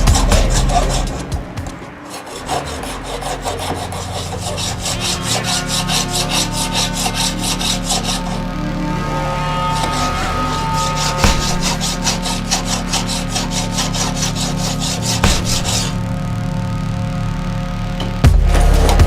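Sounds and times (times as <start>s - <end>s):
tool rasping steel: 0.0s - 16.0s.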